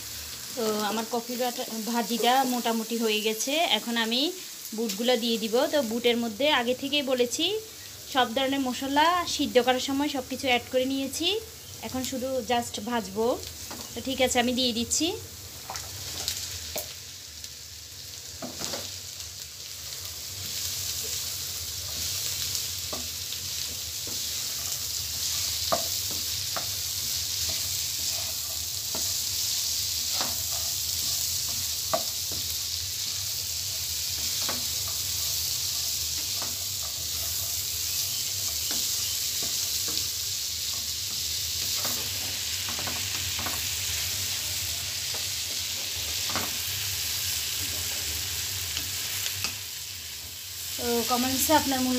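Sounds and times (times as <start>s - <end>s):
food sizzling in oil: 0.0s - 51.9s.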